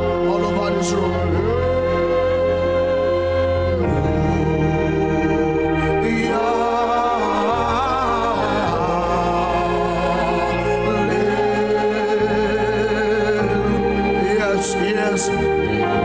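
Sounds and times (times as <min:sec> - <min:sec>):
person singing long notes: 0:00.0 - 0:16.0
sustained keyboard chords: 0:00.0 - 0:16.0.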